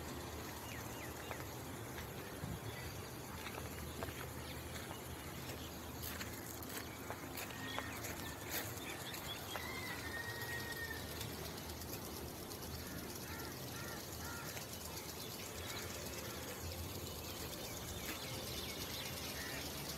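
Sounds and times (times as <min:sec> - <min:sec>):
steady outdoor hiss: 0:00.0 - 0:19.9.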